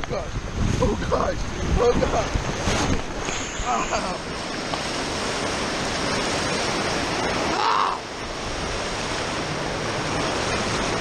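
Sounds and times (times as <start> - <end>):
water splashing on a water slide: 0.0 - 11.0.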